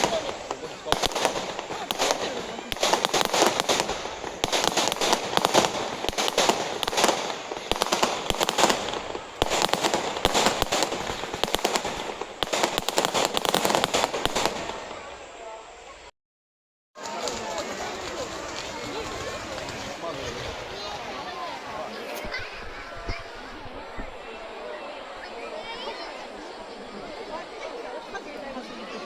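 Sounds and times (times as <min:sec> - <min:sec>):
fireworks crackling and popping: 0:00.0 - 0:16.1, 0:17.0 - 0:24.2.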